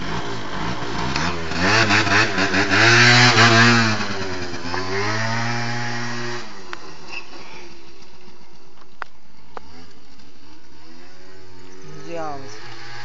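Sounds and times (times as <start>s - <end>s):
scooter engine revving: 0.0s - 8.6s, 9.2s - 13.0s.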